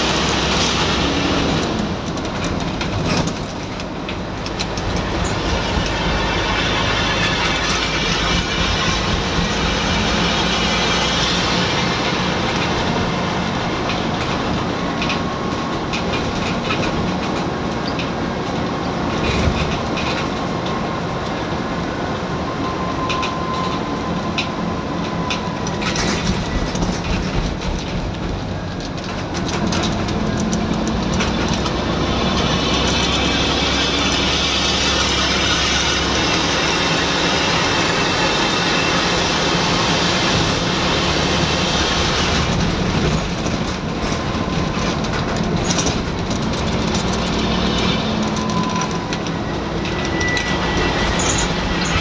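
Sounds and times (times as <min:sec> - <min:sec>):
bus body rattles: 0:00.0 - 0:52.0
bus engine running: 0:00.0 - 0:52.0
road noise: 0:00.0 - 0:52.0.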